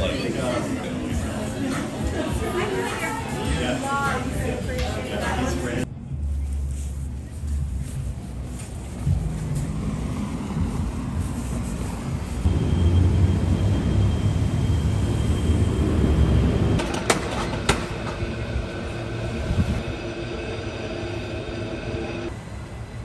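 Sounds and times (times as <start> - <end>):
street traffic rumbling: 0.0 - 23.0.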